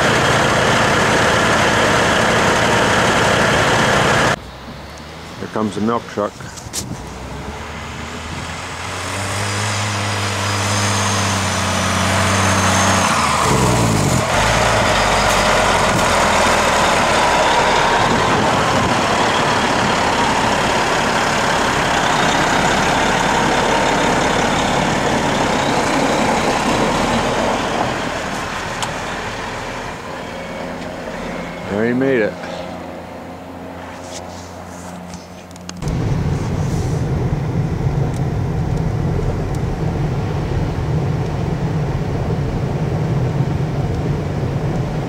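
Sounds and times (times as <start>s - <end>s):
truck diesel engine passing: 0.0s - 45.0s.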